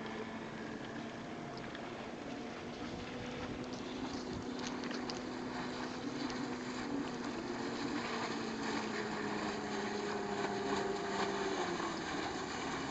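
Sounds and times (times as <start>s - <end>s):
outboard motor droning: 0.0s - 12.9s.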